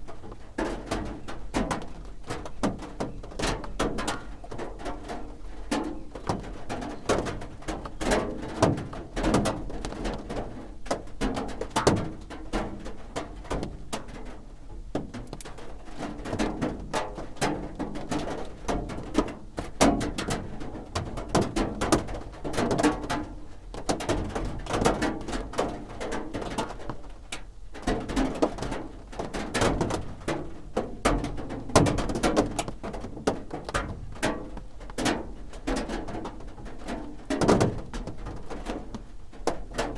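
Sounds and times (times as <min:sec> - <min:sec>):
rain drumming on a roof: 0:00.0 - 0:39.9.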